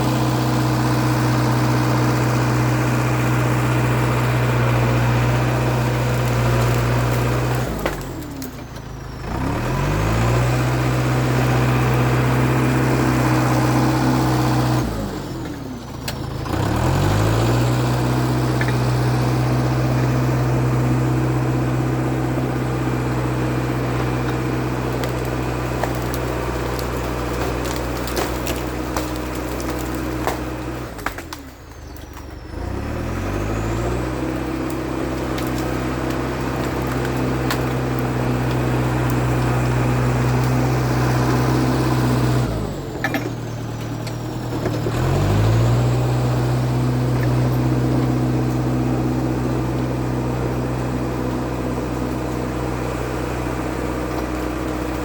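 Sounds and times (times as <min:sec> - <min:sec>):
dozer diesel engine running: 0:00.0 - 0:55.0.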